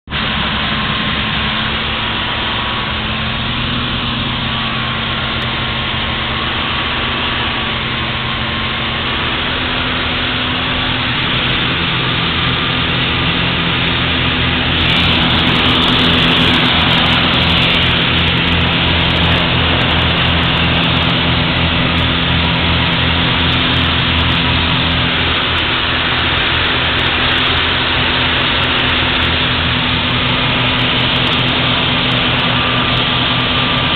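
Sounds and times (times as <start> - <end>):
light aircraft engine drone: 0.1 - 33.9.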